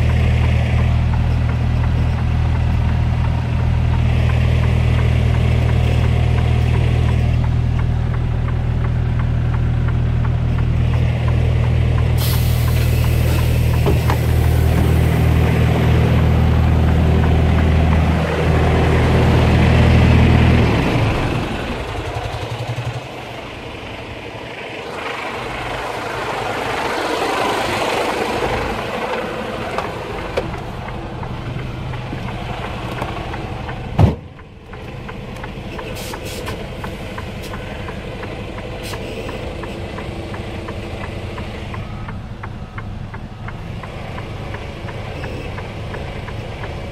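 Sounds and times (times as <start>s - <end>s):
diesel truck engine drone: 0.0s - 46.9s.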